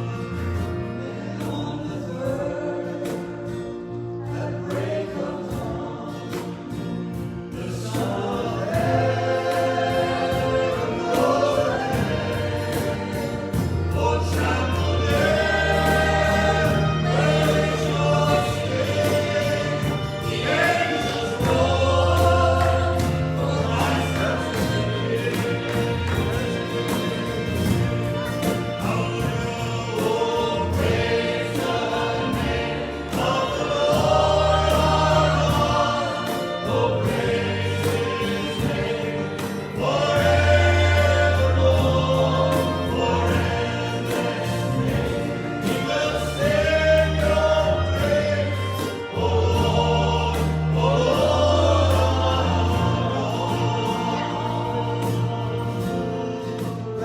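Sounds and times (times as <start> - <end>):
congregation singing a hymn: 0.0 - 57.0
instrumental accompaniment: 0.0 - 57.0.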